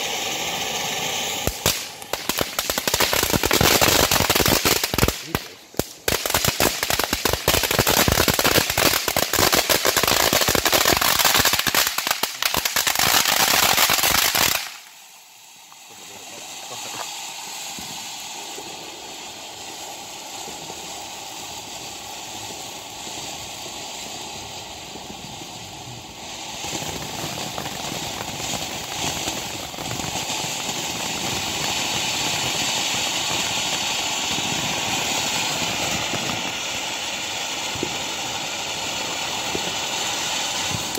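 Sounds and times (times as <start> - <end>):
firework fountain hissing: 0.0 - 40.9
firework loud dense crackling: 0.0 - 40.9.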